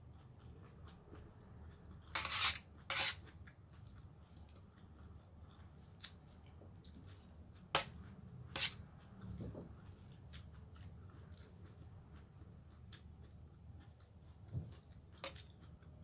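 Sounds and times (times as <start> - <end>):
low steady hum: 0.0 - 16.0
person chewing: 0.0 - 16.0.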